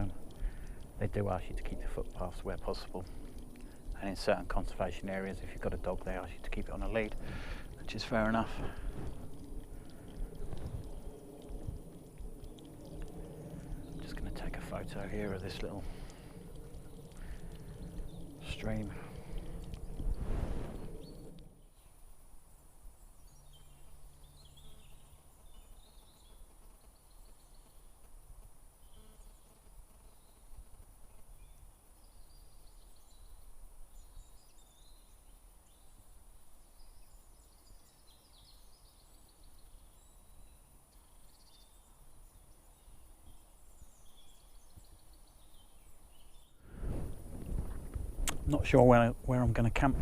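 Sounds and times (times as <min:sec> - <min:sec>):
faint birdsong chirps: 0:00.0 - 0:47.2
outdoor background noise: 0:00.0 - 0:50.0.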